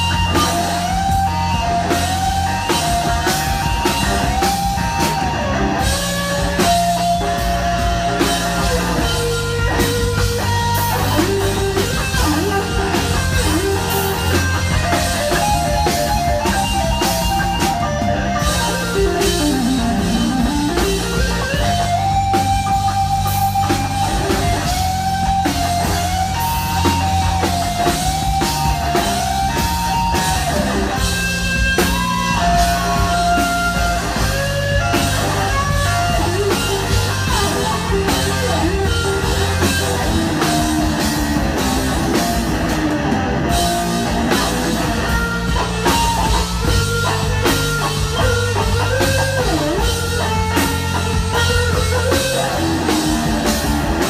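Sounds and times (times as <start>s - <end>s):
bass notes: 0.0s - 54.0s
drum kit: 0.0s - 54.0s
electric guitar lead: 0.0s - 54.0s.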